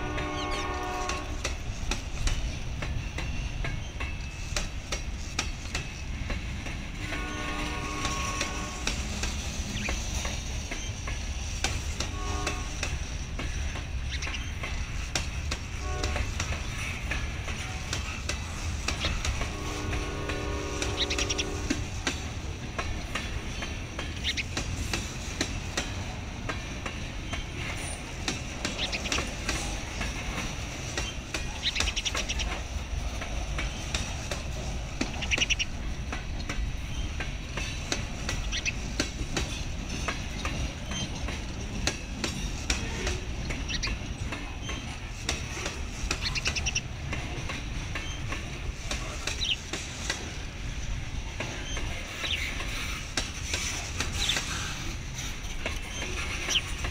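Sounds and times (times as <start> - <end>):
train wheels rumbling on rail: 0.0 - 56.9
wheels clicking over rail joints: 0.0 - 56.9.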